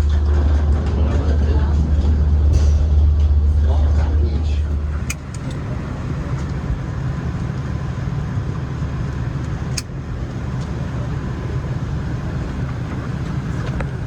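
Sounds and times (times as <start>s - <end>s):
airplane cabin noise: 0.0s - 14.0s.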